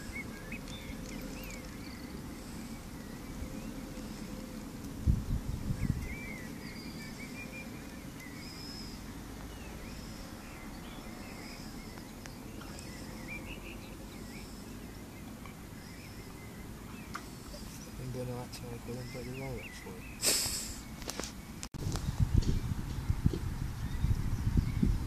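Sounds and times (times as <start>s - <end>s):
wind rumble: 0.0s - 19.0s, 20.8s - 25.0s
birds chirping: 0.0s - 25.0s.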